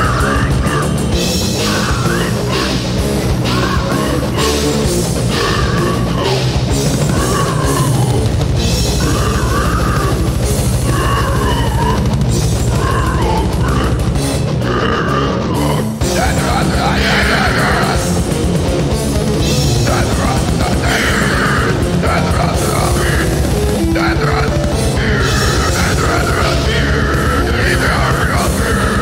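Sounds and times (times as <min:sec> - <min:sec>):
death metal band playing: 0:00.0 - 0:29.0.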